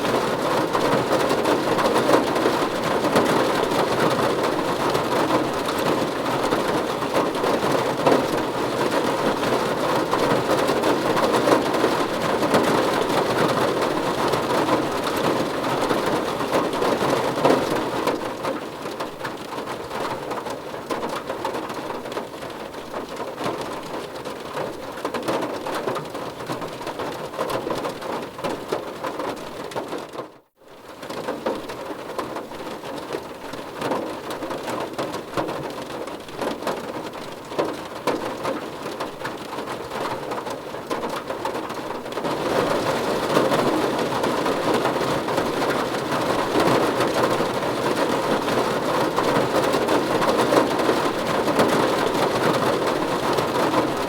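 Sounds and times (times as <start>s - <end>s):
rain on a car roof: 0.0s - 54.0s.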